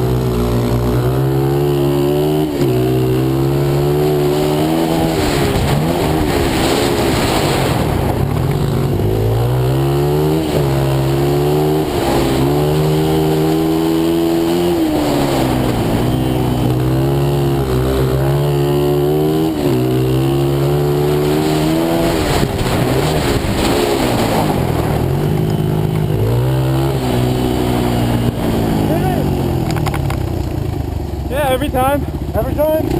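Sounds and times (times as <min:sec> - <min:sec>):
motorbike engine revving: 0:00.0 - 0:32.9.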